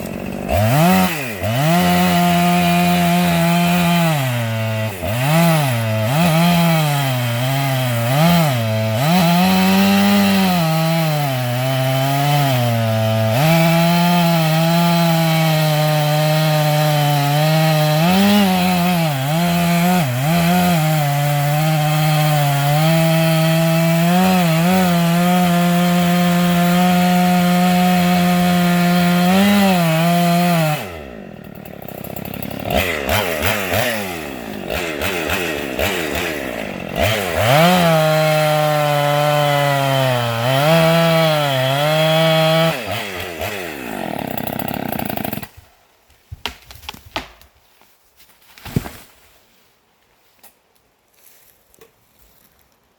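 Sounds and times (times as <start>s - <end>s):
chainsaw cutting wood: 0.0s - 47.5s.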